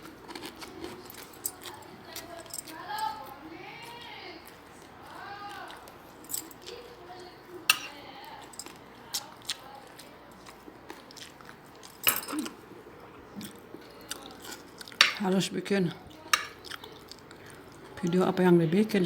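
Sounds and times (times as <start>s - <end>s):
person chewing food: 0.0s - 7.0s, 7.8s - 15.2s, 16.0s - 18.0s.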